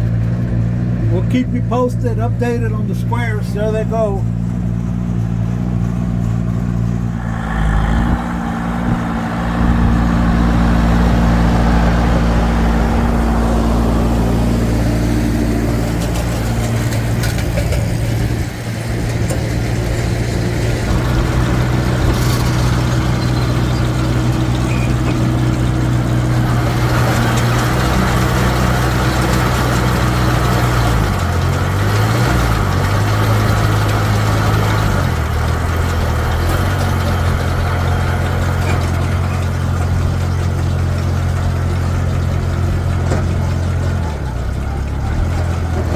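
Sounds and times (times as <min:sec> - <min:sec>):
hay baler mechanical clatter: 0:00.0 - 0:45.9
tractor engine running: 0:00.0 - 0:45.9.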